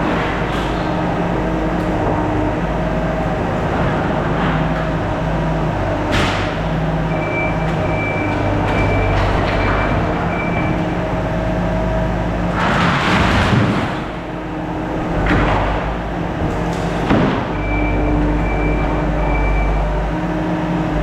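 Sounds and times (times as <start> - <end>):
skid steer engine running: 0.0 - 21.0.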